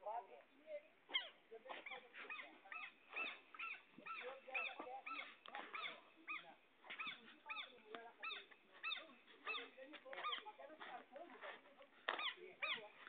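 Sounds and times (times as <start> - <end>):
faint animal calling: 1.1 - 13.0.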